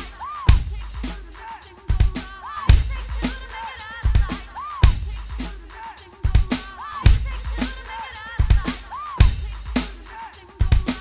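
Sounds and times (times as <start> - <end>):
electronic drum beat: 0.0 - 11.0.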